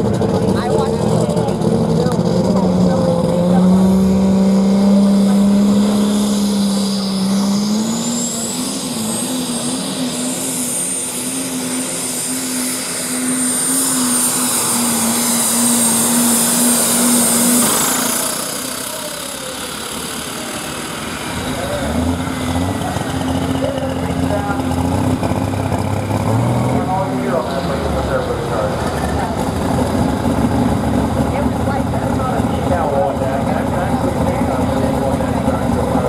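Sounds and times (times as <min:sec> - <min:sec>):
high turbo whine: 0:00.0 - 0:36.0
tractor diesel engine under load: 0:00.0 - 0:36.0.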